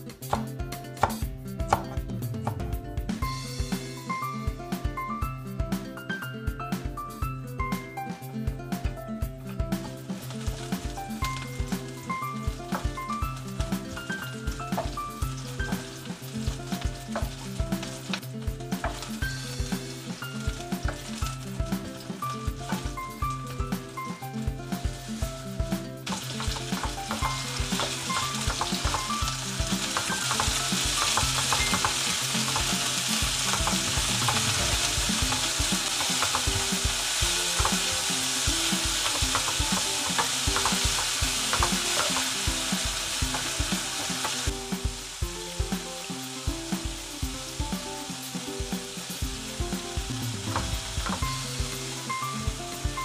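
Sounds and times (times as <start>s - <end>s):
meat sizzling in a frying pan: 10.0s - 53.0s.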